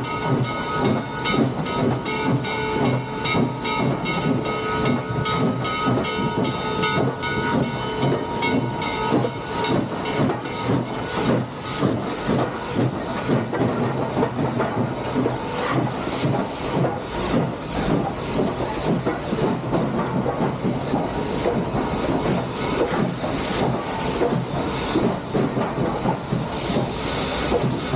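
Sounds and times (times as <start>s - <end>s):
steam locomotive chuffing: 0.0s - 27.9s.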